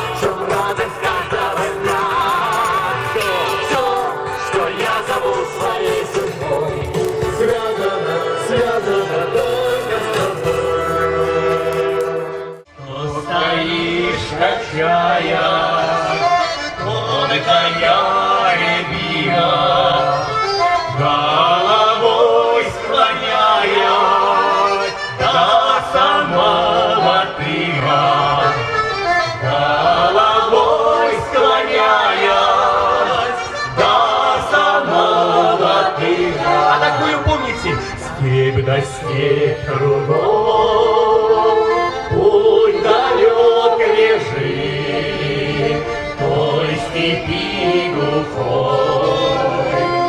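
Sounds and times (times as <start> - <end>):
men and women singing: 0.0 - 20.4, 21.0 - 28.6, 29.4 - 37.3, 38.1 - 50.0
button accordions playing: 0.0 - 50.0.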